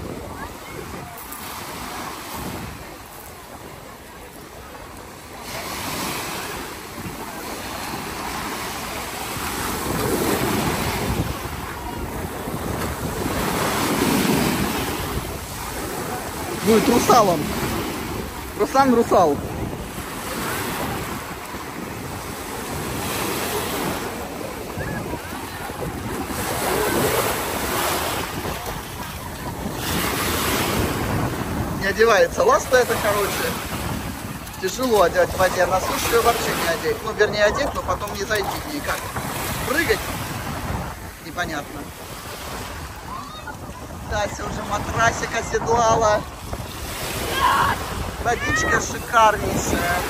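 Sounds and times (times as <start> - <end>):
sea waves breaking on shore: 0.0 - 50.0
wind buffeting microphone: 0.0 - 50.0.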